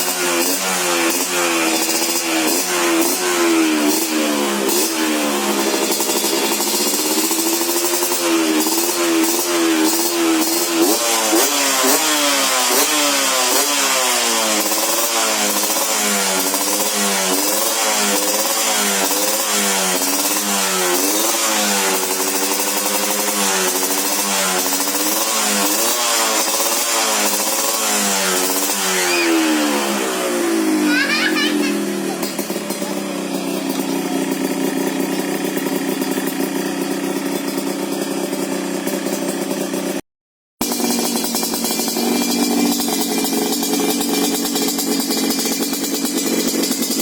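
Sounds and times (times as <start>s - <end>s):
two-stroke motorcycle engine revving: 0.0s - 40.0s, 40.6s - 47.0s.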